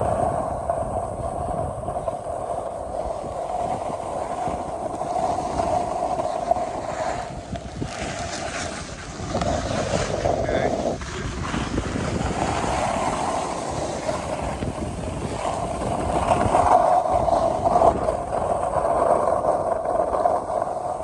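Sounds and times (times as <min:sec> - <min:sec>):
low rumble: 0:00.0 - 0:21.0
skis scraping on snow: 0:00.0 - 0:21.0
wind on microphone: 0:00.0 - 0:21.0.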